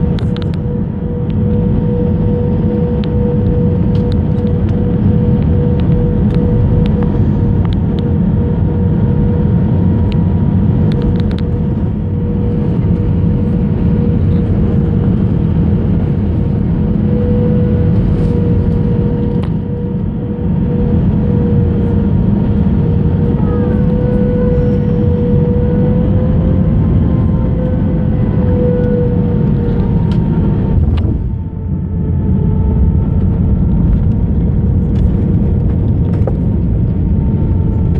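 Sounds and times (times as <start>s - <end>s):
airliner cabin engine rumble: 0.0s - 37.9s
steady whine: 0.0s - 37.9s.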